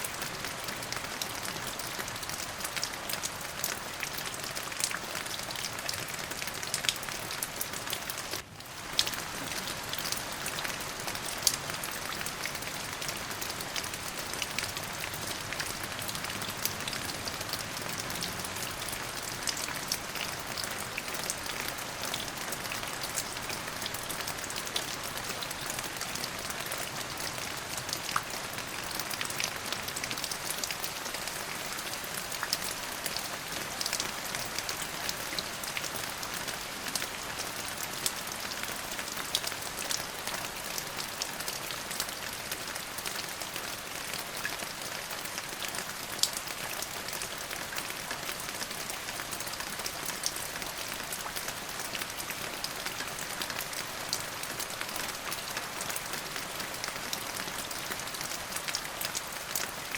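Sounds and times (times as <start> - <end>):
rain drops pattering: 0.0 - 59.9.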